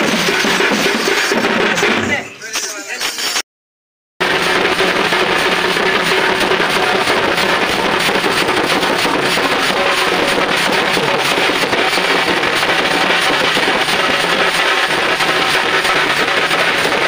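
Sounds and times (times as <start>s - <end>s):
barrel drum beaten fast: 0.0s - 2.2s, 4.2s - 17.0s.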